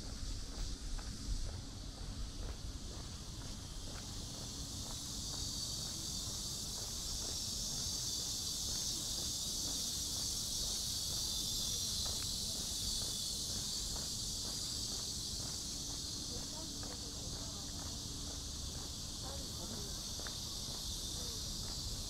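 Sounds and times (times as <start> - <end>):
insects shrill hum: 0.0 - 22.0.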